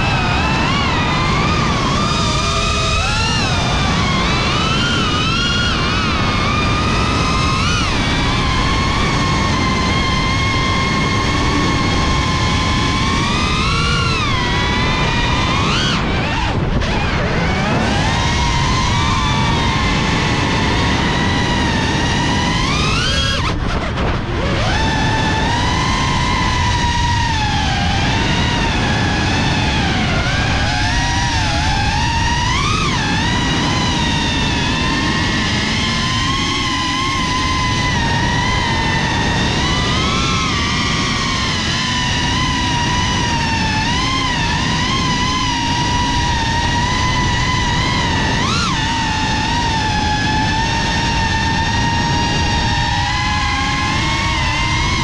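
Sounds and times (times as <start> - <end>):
drone motors whining: 0.0 - 55.0
steady rushing noise: 0.0 - 55.0.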